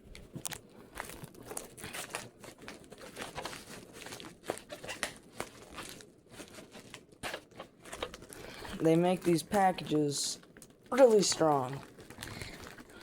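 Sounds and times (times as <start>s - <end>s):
packaging crackling and ripping: 0.1s - 13.0s.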